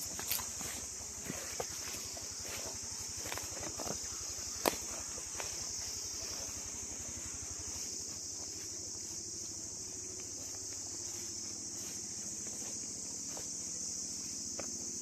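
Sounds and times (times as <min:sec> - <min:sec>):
high insect chorus: 0:00.0 - 0:15.0.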